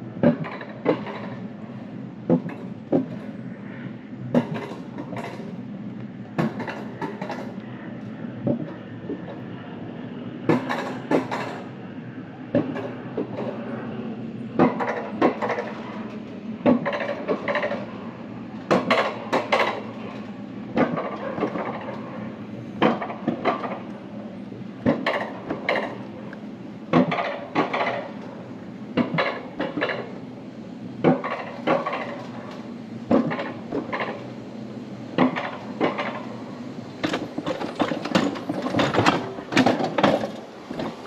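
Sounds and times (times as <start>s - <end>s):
sled clacking on steel rails: 0.2s - 5.6s, 6.3s - 7.6s, 10.4s - 11.8s, 12.5s - 13.7s, 14.5s - 18.0s, 18.6s - 24.2s, 24.8s - 30.2s, 31.0s - 34.3s, 35.1s - 41.0s.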